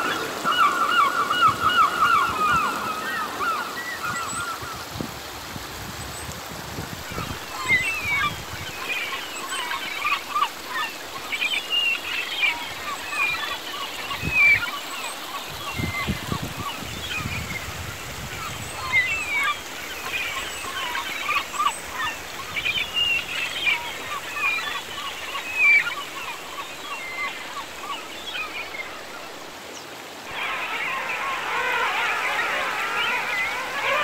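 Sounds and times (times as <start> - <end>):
birds calling: 0.0 - 5.0, 7.0 - 34.0
river rushing and splashing: 0.0 - 34.0.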